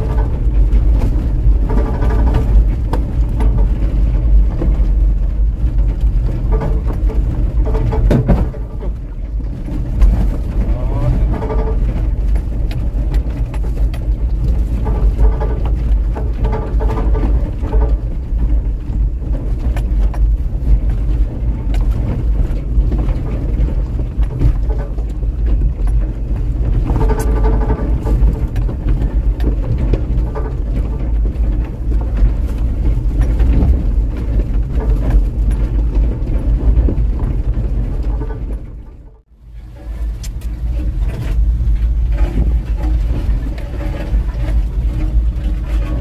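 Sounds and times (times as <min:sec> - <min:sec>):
wheels knocking over stones: 0:00.0 - 0:39.1
engine and road rumble: 0:00.0 - 0:46.0.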